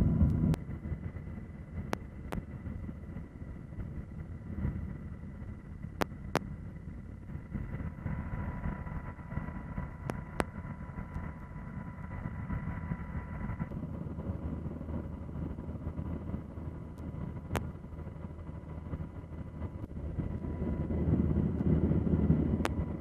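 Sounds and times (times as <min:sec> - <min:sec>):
aircraft engine rumble: 0:00.0 - 0:23.0
faint high whine: 0:00.0 - 0:23.0
wind noise: 0:00.0 - 0:23.0.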